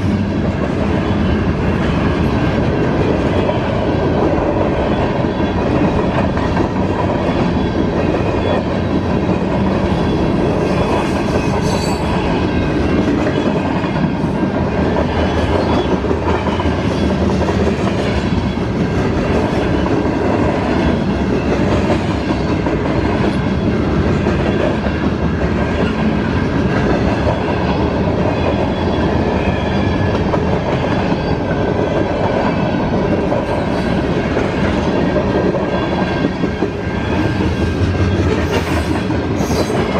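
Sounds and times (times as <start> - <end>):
clickety-clack over rail joints: 0.0 - 39.9
steel wheels rumbling on rail: 0.0 - 39.9.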